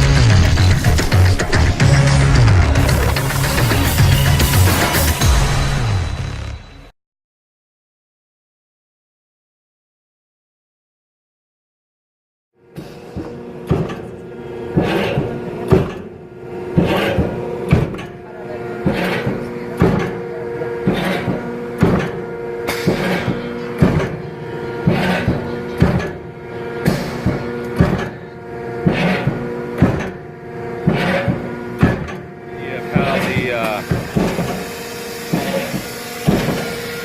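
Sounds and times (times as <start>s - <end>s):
machine hum: 0.0s - 6.9s, 12.6s - 37.0s.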